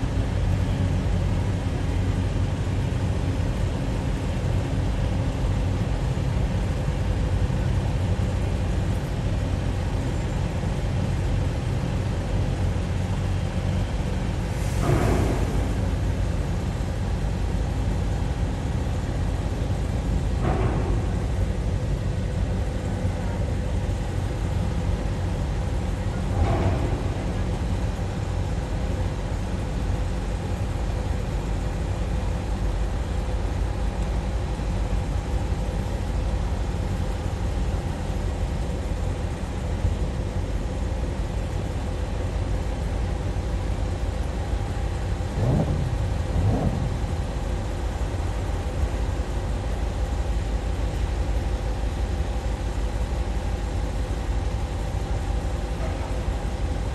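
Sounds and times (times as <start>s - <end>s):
boat engines rumbling: 0.0s - 56.9s.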